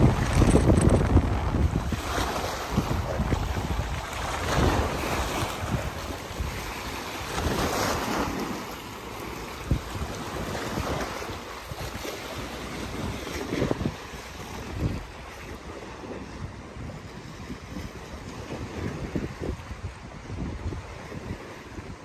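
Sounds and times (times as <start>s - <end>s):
waves breaking against seawall: 0.0s - 22.0s
wind buffeting microphone: 0.0s - 22.0s.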